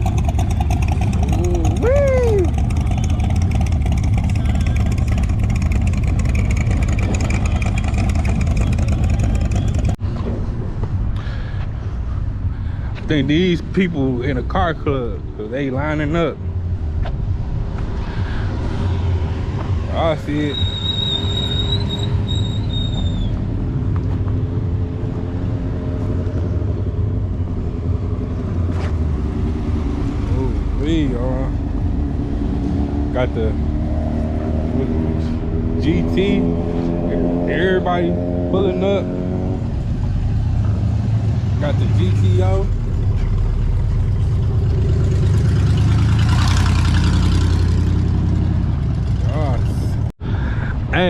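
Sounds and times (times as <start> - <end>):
car engine and exhaust rumbling: 0.0 - 51.0.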